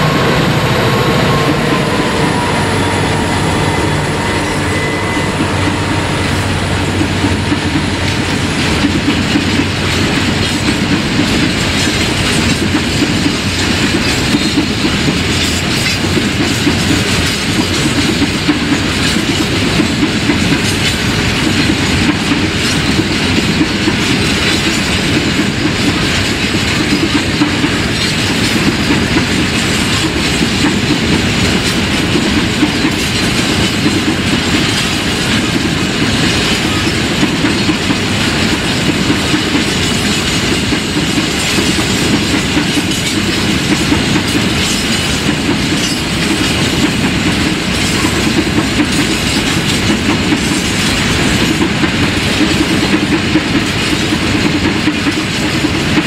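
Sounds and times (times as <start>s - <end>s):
train wagons rumbling over rails: 0.0s - 56.0s.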